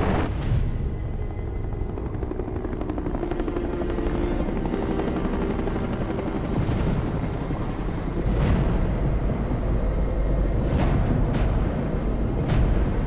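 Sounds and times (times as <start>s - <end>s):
helicopter flying by: 0.0s - 13.0s.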